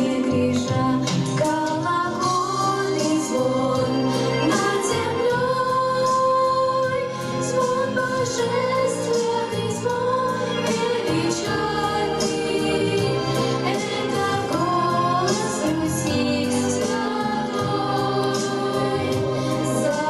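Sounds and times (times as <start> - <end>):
instrumental accompaniment: 0.0 - 20.0
women singing a duet: 0.0 - 20.0.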